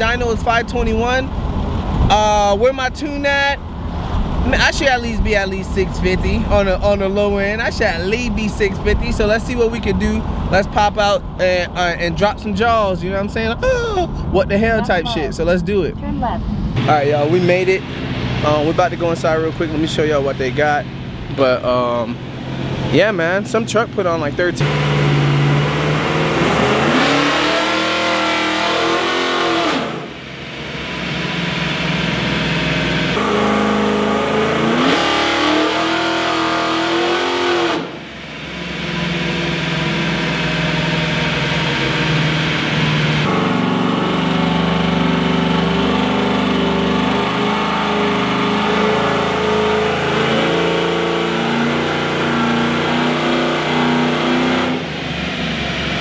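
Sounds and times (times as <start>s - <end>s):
pickup engine revving: 0.0s - 56.0s.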